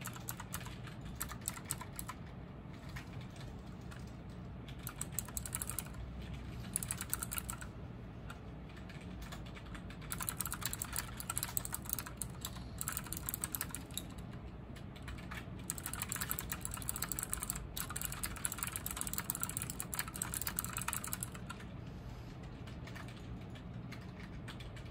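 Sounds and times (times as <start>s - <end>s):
mechanical keyboard typing: 0.0s - 21.7s, 22.6s - 24.9s.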